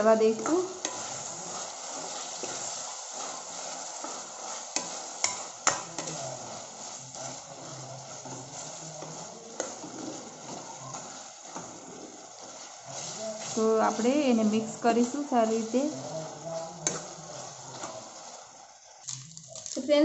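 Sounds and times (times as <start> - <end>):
tomatoes sizzling in oil: 0.0 - 20.0.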